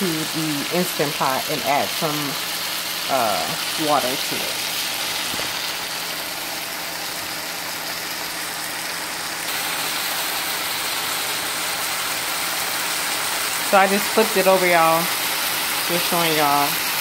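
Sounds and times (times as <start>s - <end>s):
chicken and onions sizzling: 0.0s - 17.0s.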